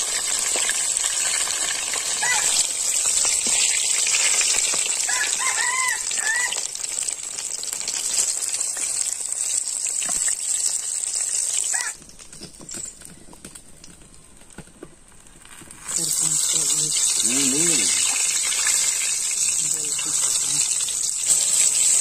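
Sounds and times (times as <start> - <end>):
chicken deep-frying in hot oil: 0.0 - 12.4, 13.4 - 22.0.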